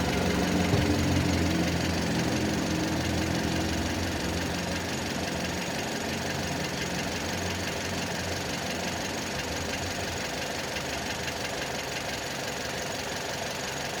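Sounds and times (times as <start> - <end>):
fast even engine knock: 0.0 - 13.1
car engine running: 0.0 - 14.0.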